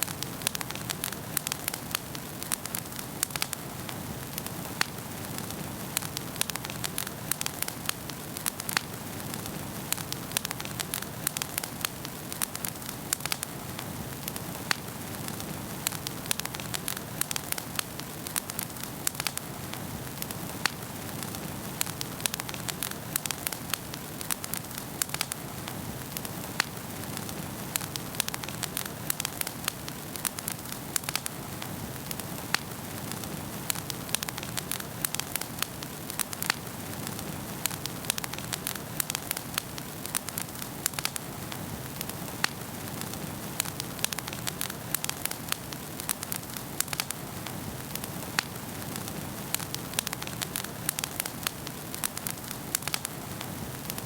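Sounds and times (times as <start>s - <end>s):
fire crackling and popping: 0.0s - 54.0s
fire hissing: 0.0s - 54.0s.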